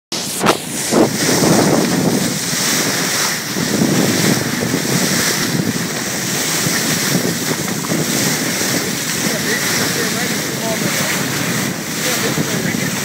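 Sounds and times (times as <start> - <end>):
water rushing along hull: 0.1 - 13.0
wind buffeting microphone: 0.1 - 13.0.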